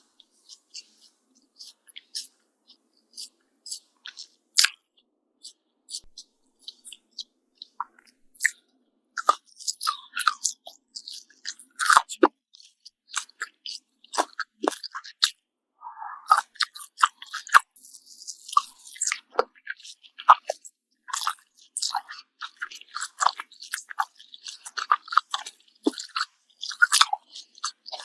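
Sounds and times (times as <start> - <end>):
bacon being chewed crunching: 0.5 - 8.6, 9.2 - 15.4, 16.3 - 28.0.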